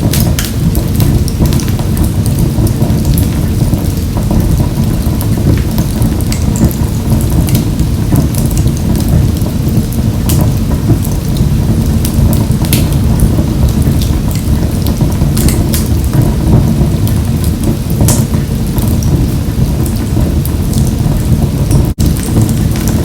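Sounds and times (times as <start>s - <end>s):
logs crackling and popping: 0.0s - 23.0s
low roar of flames: 0.0s - 23.0s.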